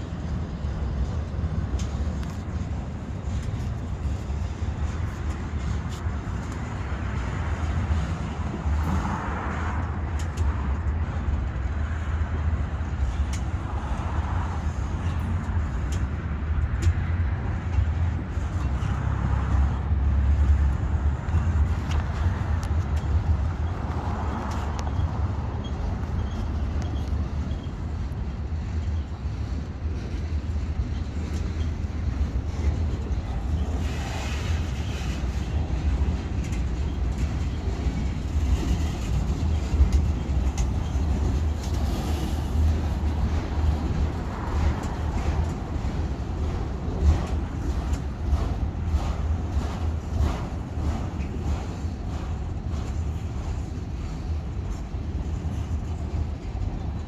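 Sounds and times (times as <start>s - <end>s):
freight train wheels rumbling: 0.0s - 57.0s
train clicks and clanks: 0.0s - 57.0s.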